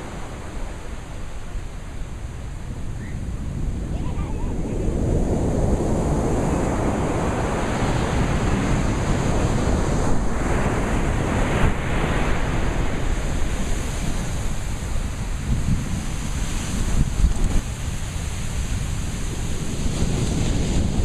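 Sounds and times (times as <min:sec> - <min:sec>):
ocean waves washing on shore: 0:00.0 - 0:21.0.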